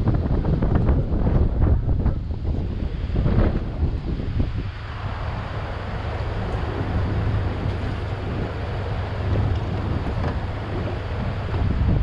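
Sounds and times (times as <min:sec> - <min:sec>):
boat engine drone: 0:00.0 - 0:12.0
wind buffeting microphone: 0:00.0 - 0:12.0.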